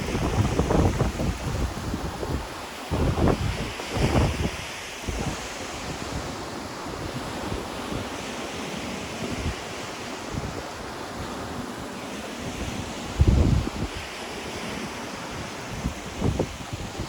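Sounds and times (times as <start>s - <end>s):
wind buffeting microphone: 0.0s - 11.8s, 12.4s - 17.0s
ocean waves breaking on shore: 0.0s - 17.0s.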